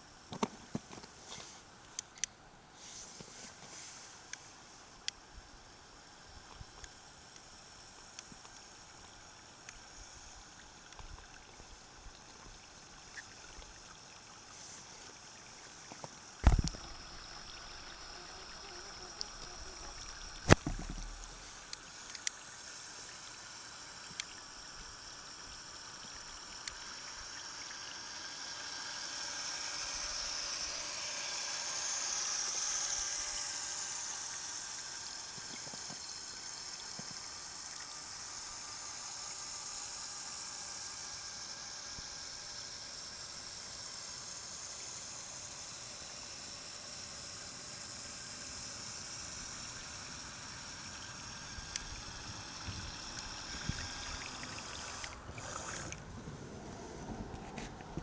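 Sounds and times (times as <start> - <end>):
toy boat water noise: 3.1 - 58.0.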